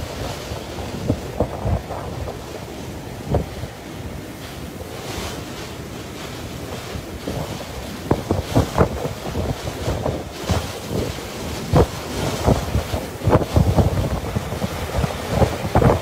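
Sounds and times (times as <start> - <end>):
strong wind blowing: 0.0 - 16.0
wind buffeting microphone thumps: 0.0 - 16.0.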